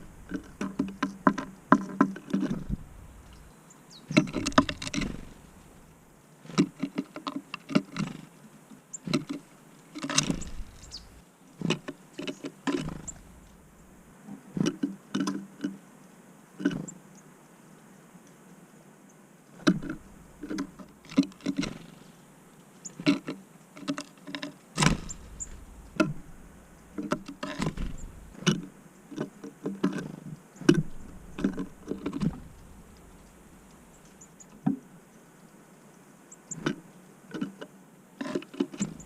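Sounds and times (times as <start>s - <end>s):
birds pecking at a feeder: 0.0s - 15.8s, 16.6s - 17.0s, 19.5s - 39.0s.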